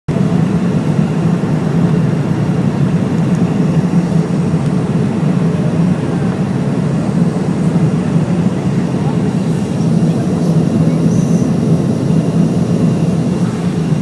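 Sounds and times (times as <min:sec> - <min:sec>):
airliner engines rumbling: 0:00.1 - 0:14.0
rushing air: 0:00.1 - 0:14.0.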